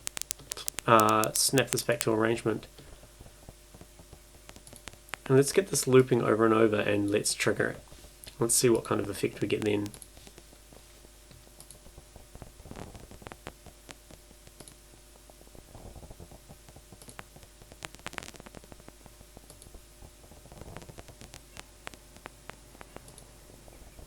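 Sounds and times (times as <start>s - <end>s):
synthesized paper crumpling clicks: 0.0s - 6.4s, 7.8s - 23.3s.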